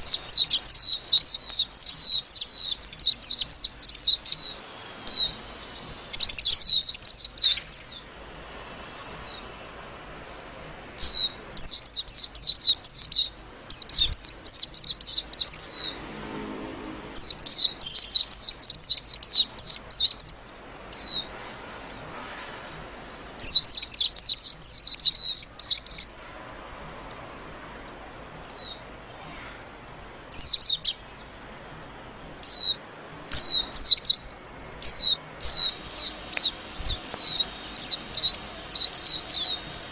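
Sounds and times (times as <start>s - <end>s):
bird chirping song: 0.0s - 26.3s, 27.8s - 29.5s, 30.3s - 39.9s.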